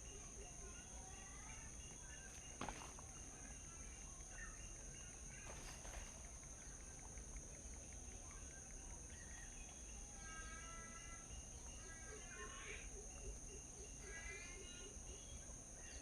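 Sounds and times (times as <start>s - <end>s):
high-pitched insect drone: 0.0s - 16.0s
small birds chirping: 0.0s - 16.0s.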